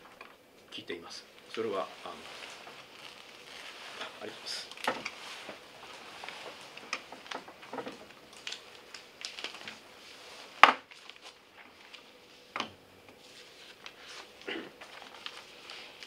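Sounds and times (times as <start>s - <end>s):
paper shuffling: 1.4s - 12.5s, 13.1s - 16.0s.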